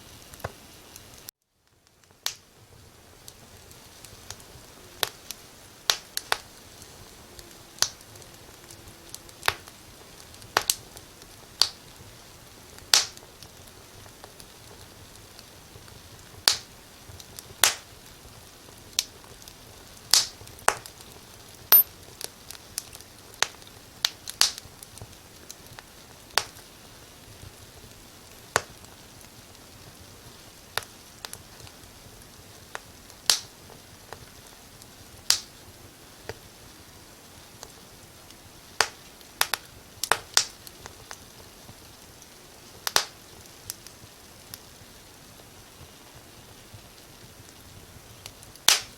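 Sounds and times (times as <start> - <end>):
fire hissing: 0.0 - 48.9
firewood crackling and popping: 0.0 - 48.9.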